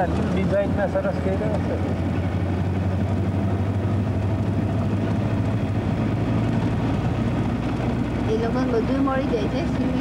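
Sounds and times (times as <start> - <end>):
vehicle engine and road drone: 0.0 - 10.0.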